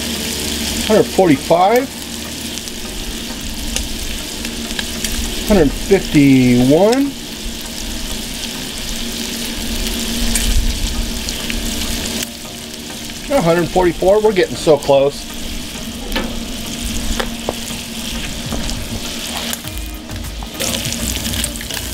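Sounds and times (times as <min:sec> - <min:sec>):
shrimp sizzling in oil: 0:00.0 - 0:21.9.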